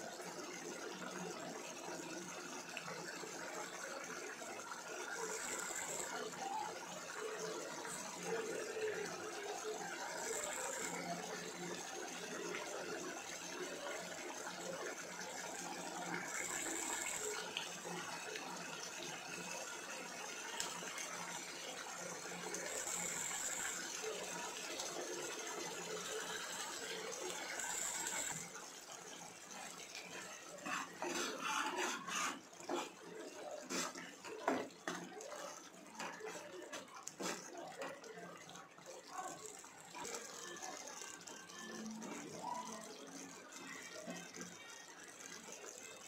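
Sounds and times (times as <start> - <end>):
pan simmering on a stove: 0.0 - 46.0.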